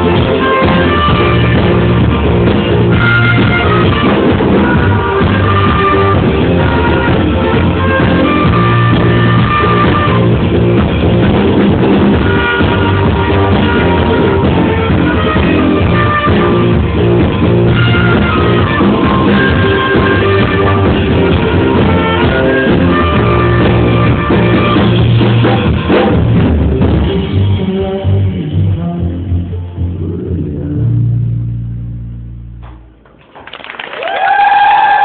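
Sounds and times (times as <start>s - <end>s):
rock band playing live: 0.0s - 31.3s.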